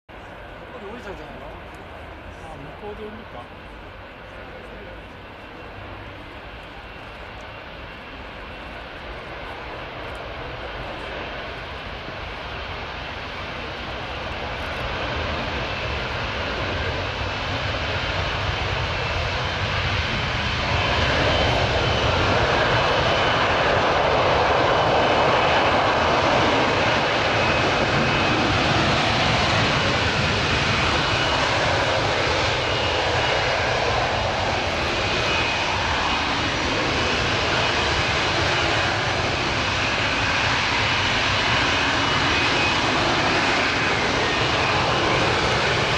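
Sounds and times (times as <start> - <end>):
jet engine roar: 0.1 - 45.9
high-pitched engine whine: 2.2 - 45.9.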